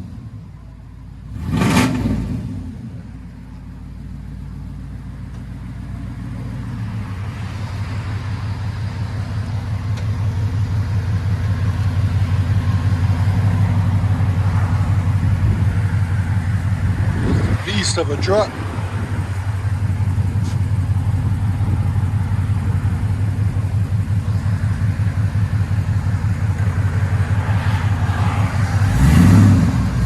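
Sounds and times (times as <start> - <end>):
car engine idling rumble: 0.0 - 30.0.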